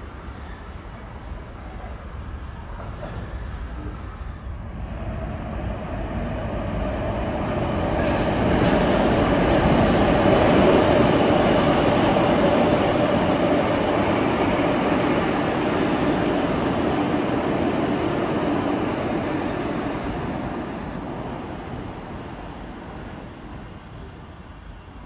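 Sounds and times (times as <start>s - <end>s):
subway train rumbling: 0.0s - 25.0s
train whine: 0.0s - 25.0s.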